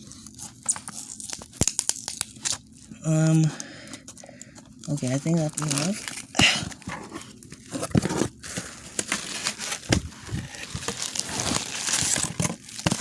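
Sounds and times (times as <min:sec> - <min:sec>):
packaging being torn and crumpled: 0:00.0 - 0:03.4, 0:04.8 - 0:13.0.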